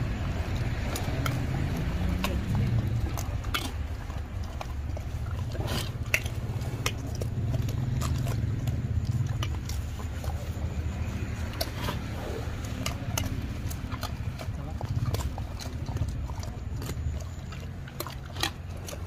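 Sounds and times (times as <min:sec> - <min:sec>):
bears crunching peanuts: 0:00.0 - 0:19.0
steady low rumble: 0:00.0 - 0:19.0.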